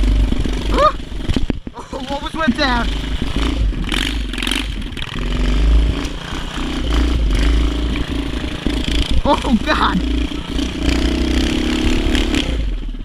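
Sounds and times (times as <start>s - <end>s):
small bike engine revving: 0.0s - 13.0s.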